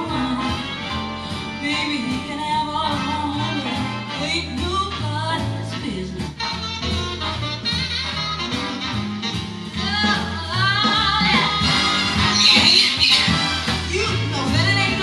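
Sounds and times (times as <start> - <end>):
song with singer and bass line: 0.0 - 15.0.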